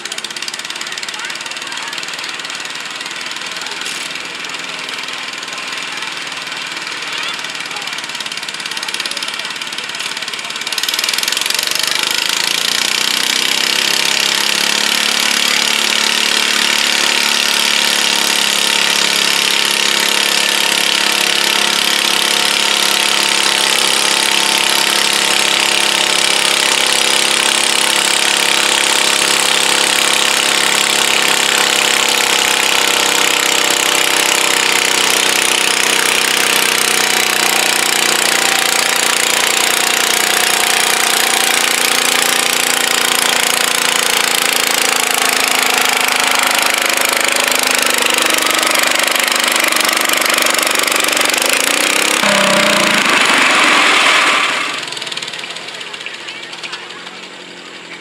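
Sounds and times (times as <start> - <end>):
tractor engine revving under load: 0.0 - 58.0.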